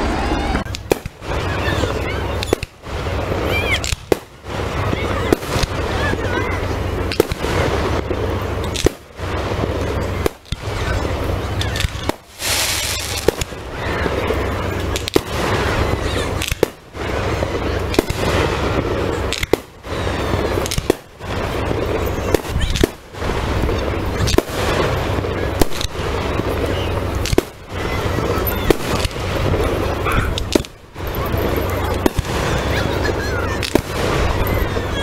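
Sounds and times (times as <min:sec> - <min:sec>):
fireworks bangs and crackle: 0:00.0 - 0:35.0.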